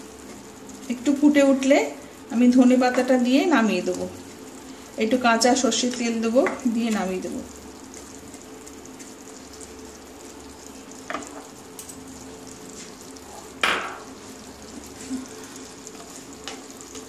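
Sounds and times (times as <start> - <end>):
curry sizzling in a pan: 0.0 - 17.0.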